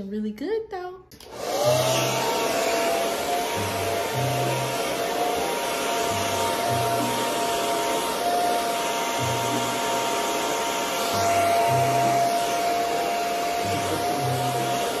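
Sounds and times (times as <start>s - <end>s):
hair dryer running: 1.2s - 15.0s.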